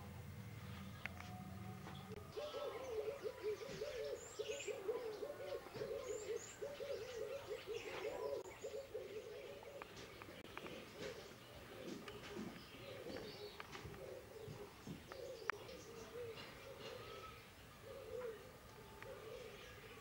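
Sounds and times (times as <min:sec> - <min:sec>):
small birds chirping faintly: 0:00.0 - 0:20.0
doves cooing: 0:02.1 - 0:20.0.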